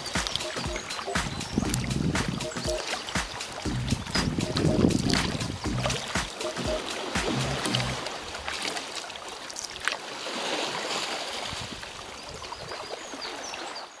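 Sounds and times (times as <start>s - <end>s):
water splashing around kayak: 0.0s - 13.8s.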